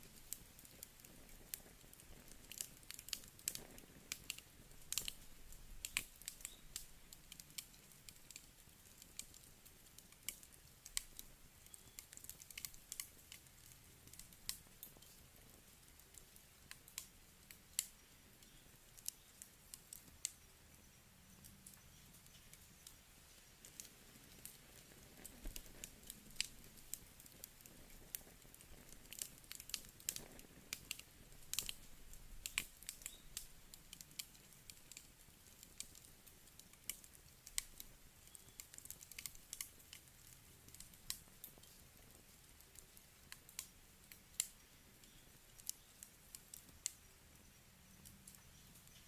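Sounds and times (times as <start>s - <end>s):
campfire crackling: 0.0s - 49.0s
faint low hiss: 0.0s - 49.0s.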